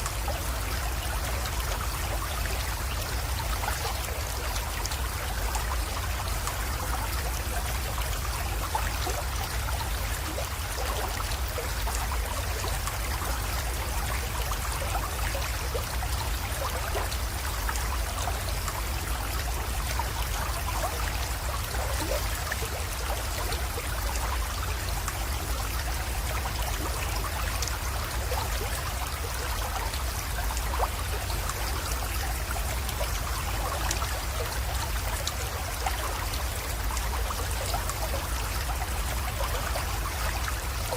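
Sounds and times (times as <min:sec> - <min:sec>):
creek flowing and trickling: 0:00.0 - 0:40.9
small water splashes: 0:00.0 - 0:40.9.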